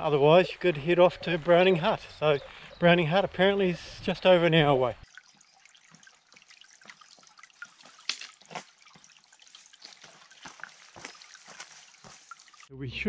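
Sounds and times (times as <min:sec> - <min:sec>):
small stream trickling: 0:00.0 - 0:12.7
water drips and plinks: 0:00.0 - 0:12.7
water splashes: 0:00.0 - 0:12.7.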